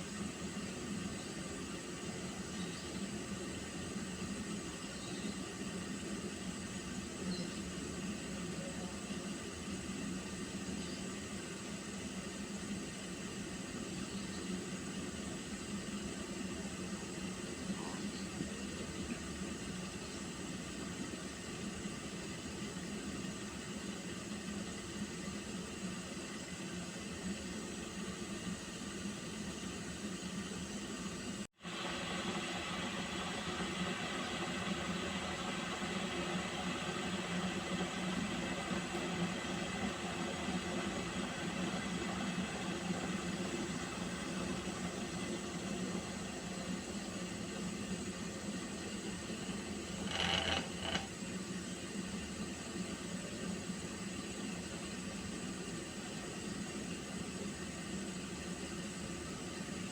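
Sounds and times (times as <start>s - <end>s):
water heating hiss and rumble: 0.0s - 59.9s.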